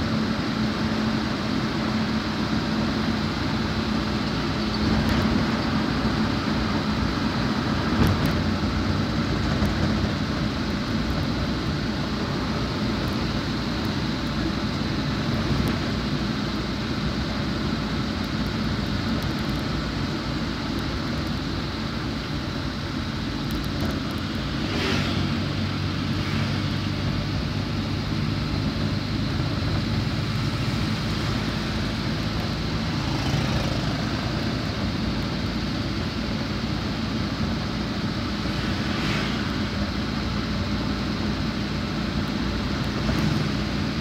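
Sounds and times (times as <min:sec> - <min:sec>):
car engine drone: 0:00.0 - 0:44.0
tyre noise on wet road: 0:00.0 - 0:44.0.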